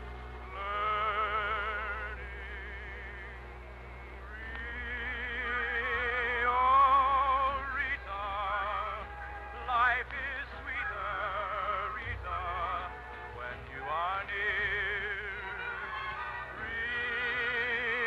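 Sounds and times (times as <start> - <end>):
operetta singing with vibrato: 0.0 - 18.0
orchestra: 0.0 - 18.0
steady low hum: 0.0 - 18.0.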